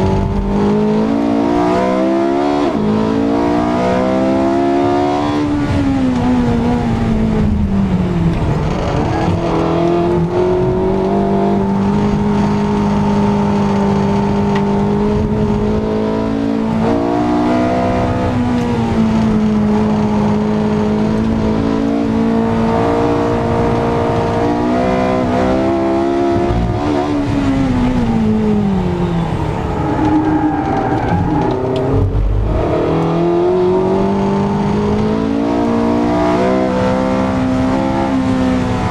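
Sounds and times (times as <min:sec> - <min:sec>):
sports car engine at speed: 0:00.0 - 0:38.9.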